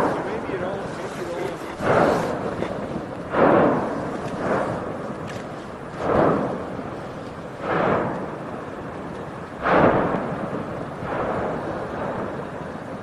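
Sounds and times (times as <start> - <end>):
volcanic vent explosive blasts: 0.0 - 13.0.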